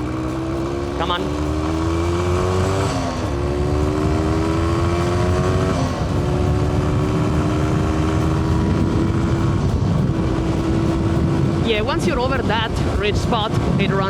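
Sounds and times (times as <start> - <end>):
two-stroke motorcycle engine: 0.0 - 14.0
wind and road noise: 0.0 - 14.0.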